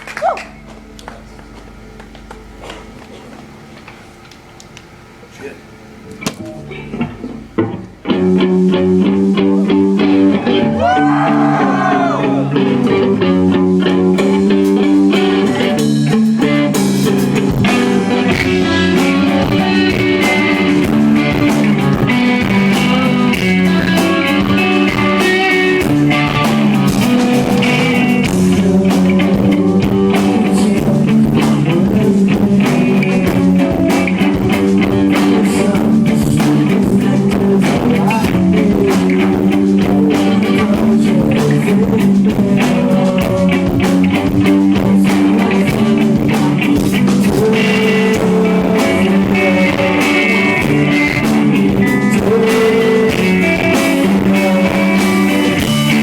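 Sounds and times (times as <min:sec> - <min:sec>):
guitars: 0:00.0 - 0:56.0
drum kit: 0:05.3 - 0:56.0.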